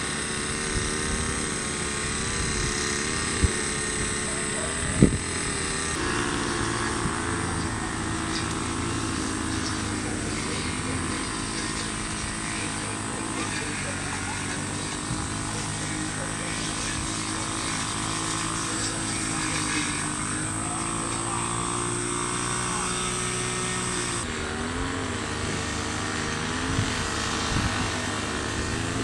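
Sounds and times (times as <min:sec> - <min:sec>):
high whine: 0:00.0 - 0:29.0
motor drone: 0:00.0 - 0:29.0.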